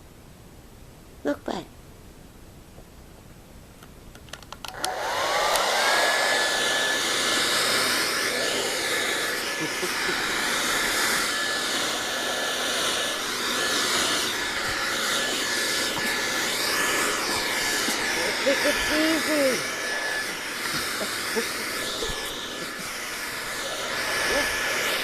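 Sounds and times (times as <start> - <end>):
blow dryer whining: 4.7 - 25.0.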